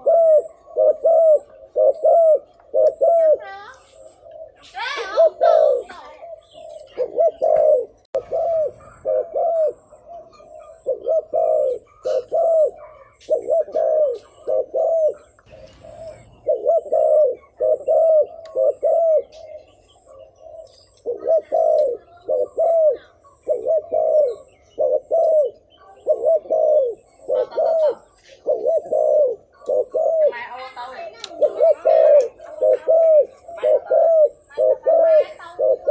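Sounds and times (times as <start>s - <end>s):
dove cooing: 0.0s - 35.9s.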